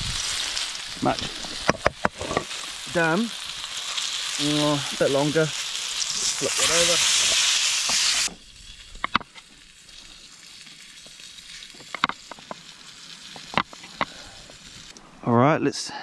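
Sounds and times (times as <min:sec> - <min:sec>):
meat sizzling in a frying pan: 0:00.0 - 0:14.9.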